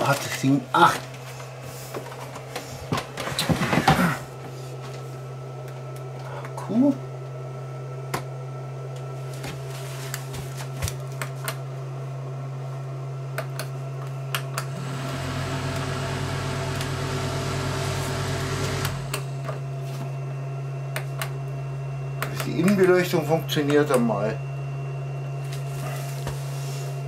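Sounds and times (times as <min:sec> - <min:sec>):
cooling fan humming: 0:00.0 - 0:27.0.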